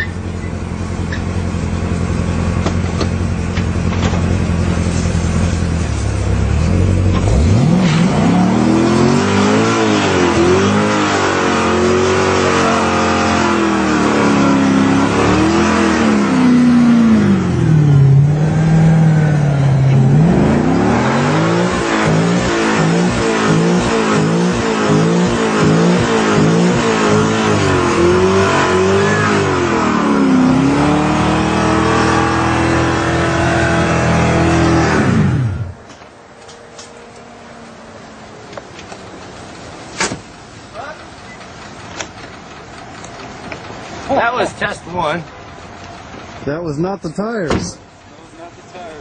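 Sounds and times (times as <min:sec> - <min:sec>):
car engine idling and revving: 0:00.0 - 0:49.0.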